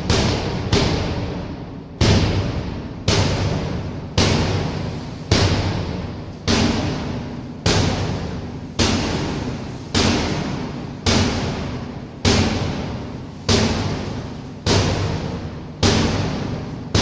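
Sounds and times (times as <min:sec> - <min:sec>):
large drum beats: 0:00.0 - 0:17.0.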